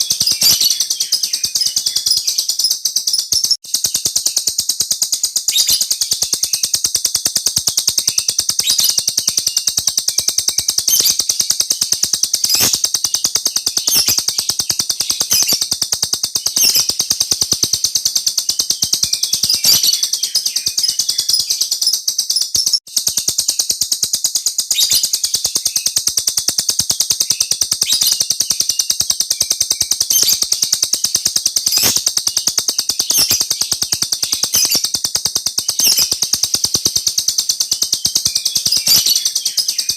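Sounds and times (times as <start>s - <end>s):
lovebird chirping chatter: 0.0s - 39.9s.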